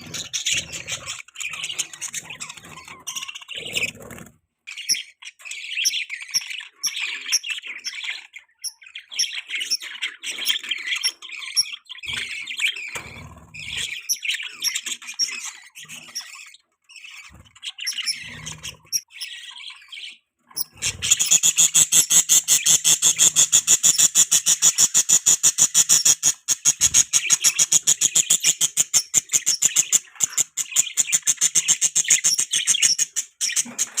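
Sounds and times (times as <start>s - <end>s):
budgies chirping and warbling: 0.0s - 34.0s.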